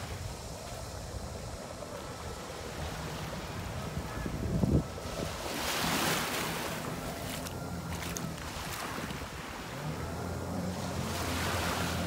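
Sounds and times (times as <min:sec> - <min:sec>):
small waves lapping on sand: 0:00.0 - 0:12.0
wind rumbling on microphone: 0:00.0 - 0:12.0.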